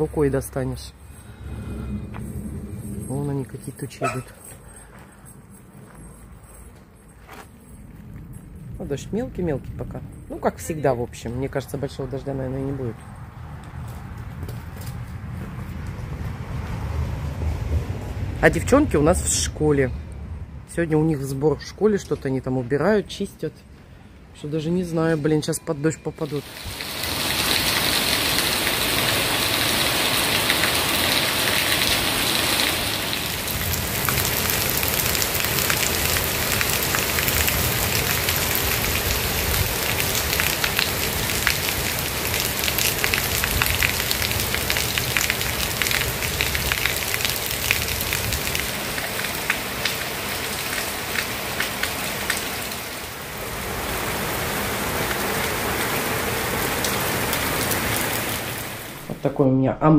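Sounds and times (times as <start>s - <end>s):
rain drops ticking: 0.0s - 16.8s, 26.2s - 59.2s.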